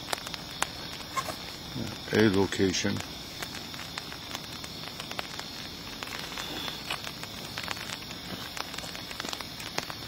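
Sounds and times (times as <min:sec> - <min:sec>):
rain falling on pavement: 0:00.0 - 0:10.0.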